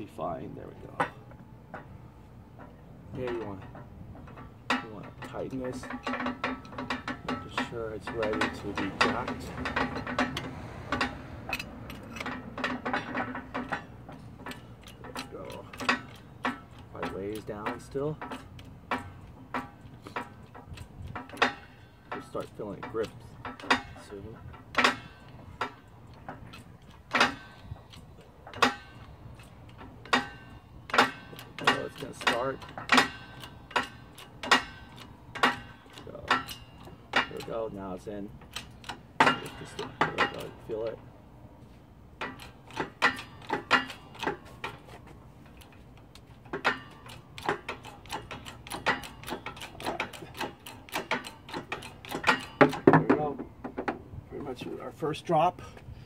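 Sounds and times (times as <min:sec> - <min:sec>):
hydraulic jack metallic clack: 0:00.2 - 0:41.2, 0:42.0 - 0:55.4.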